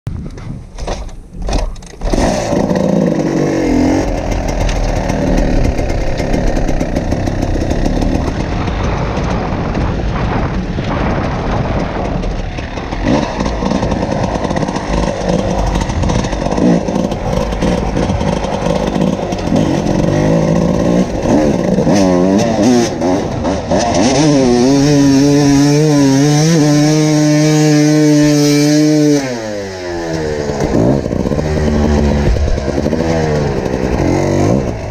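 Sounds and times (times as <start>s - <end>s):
dirt bike engines revving: 1.4s - 34.9s.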